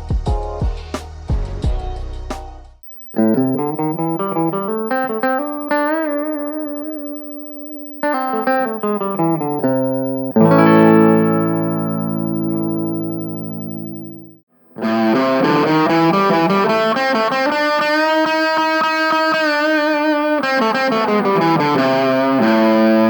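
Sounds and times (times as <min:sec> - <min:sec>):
electric guitar notes: 0:02.9 - 0:23.0
strummed guitar chord ringing: 0:03.1 - 0:23.0.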